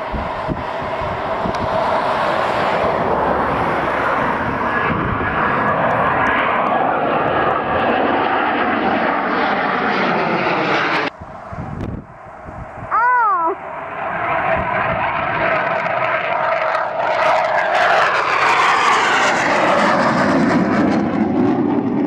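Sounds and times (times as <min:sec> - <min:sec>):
jet taking off with afterburner: 0:00.0 - 0:22.0.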